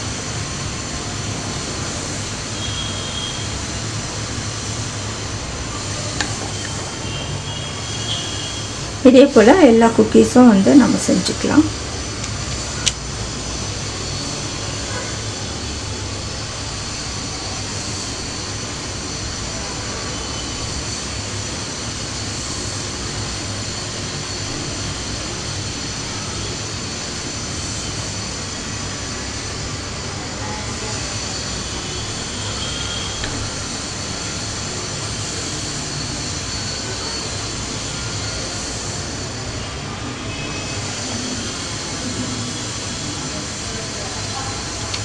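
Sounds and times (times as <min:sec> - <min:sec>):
mechanical whooshing hum: 0:00.0 - 0:45.0.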